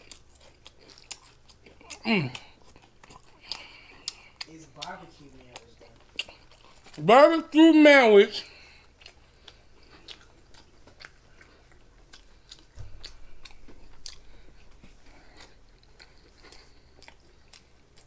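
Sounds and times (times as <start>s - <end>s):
person chewing: 0.0s - 7.1s, 8.3s - 18.0s.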